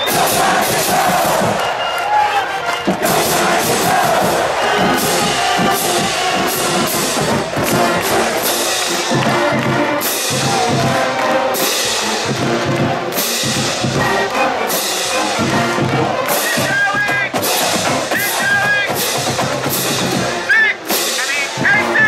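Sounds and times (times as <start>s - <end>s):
crowd singing along: 0.0s - 19.1s
marching band brass and drums: 0.0s - 22.0s.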